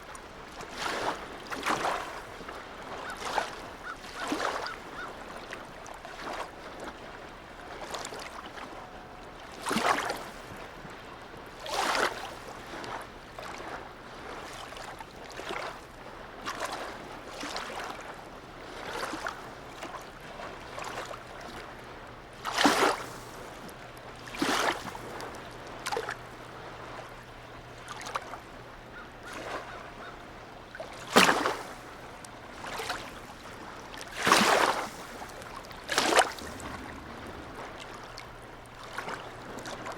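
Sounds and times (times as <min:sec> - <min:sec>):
small waves lapping and splashing: 0:00.0 - 0:39.9.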